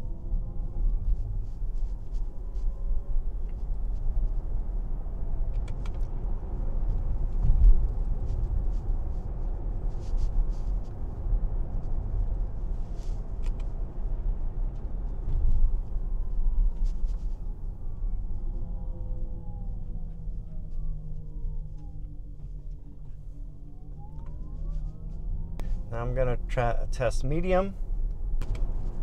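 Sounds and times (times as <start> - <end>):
road and tyre rumble in car: 0.0 - 29.0.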